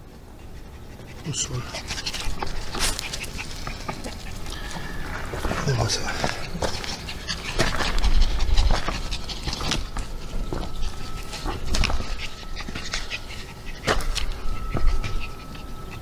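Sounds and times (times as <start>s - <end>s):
dog panting: 0.0s - 16.0s
footsteps on stony trail: 1.9s - 15.3s.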